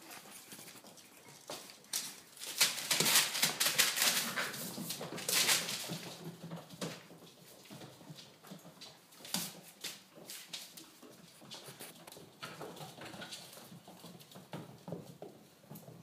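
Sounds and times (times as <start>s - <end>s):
puppies scuffling on wooden floor: 0.0s - 16.0s.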